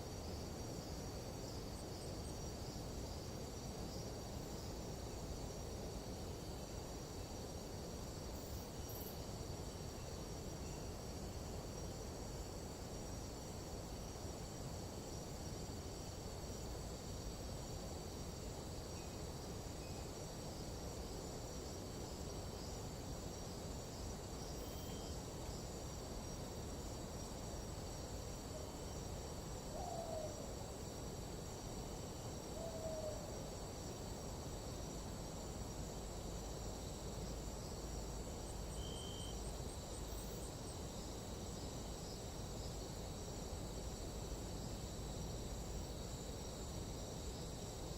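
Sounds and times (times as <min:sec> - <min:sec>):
insect chorus: 0:00.0 - 0:47.9.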